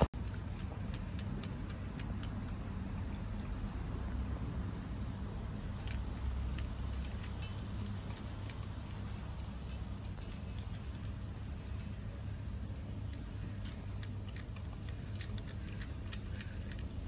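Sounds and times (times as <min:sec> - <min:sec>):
kittens chewing kibble: 0:00.0 - 0:17.0
steady low rumble: 0:00.0 - 0:17.0.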